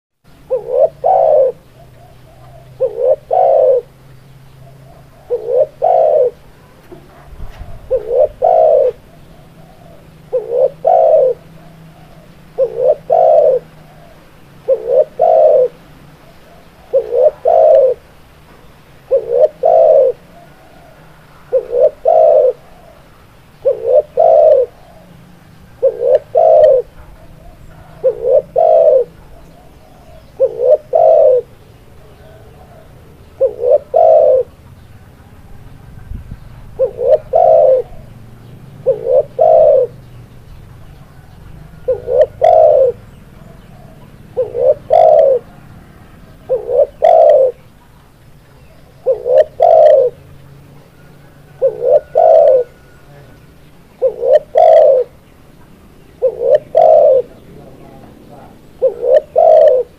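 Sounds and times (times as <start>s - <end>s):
dove cooing: 0.3s - 59.9s.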